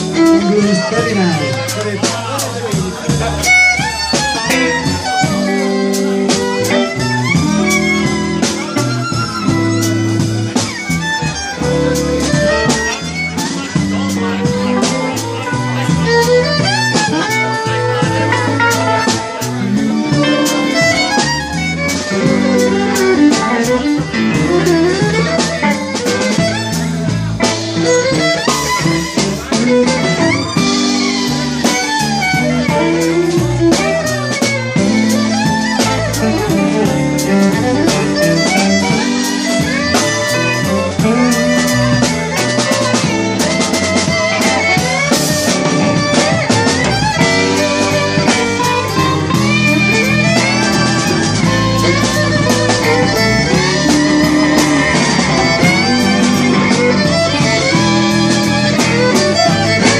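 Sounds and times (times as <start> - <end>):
drum kit: 0.0 - 59.9
electric bass: 0.0 - 59.9
electric guitars: 0.0 - 59.9
violin: 0.0 - 59.9.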